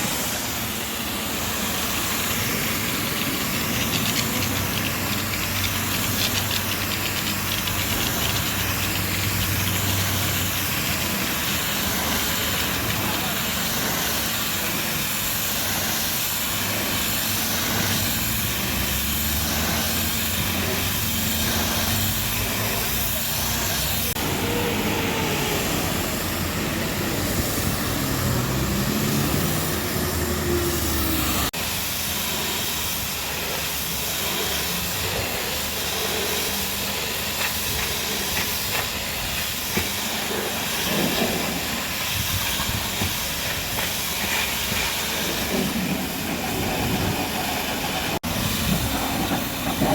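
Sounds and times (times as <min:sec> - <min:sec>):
pressure washer spraying: 0:00.0 - 0:49.9.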